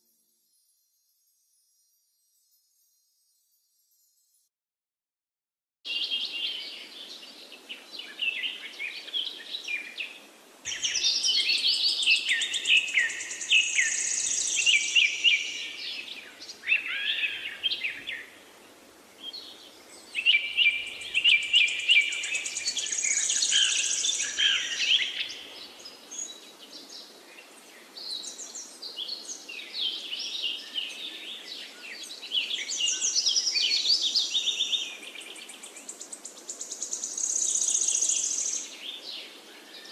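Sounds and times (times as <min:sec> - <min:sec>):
birds chirping and trilling: 0:05.9 - 0:18.4, 0:19.2 - 0:39.9.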